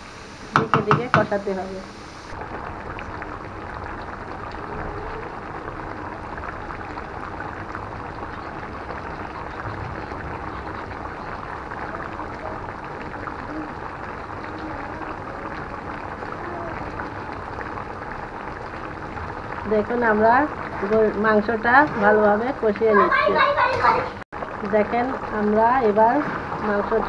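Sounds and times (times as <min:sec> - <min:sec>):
curry bubbling and crackling: 0:02.2 - 0:23.6, 0:24.3 - 0:27.0.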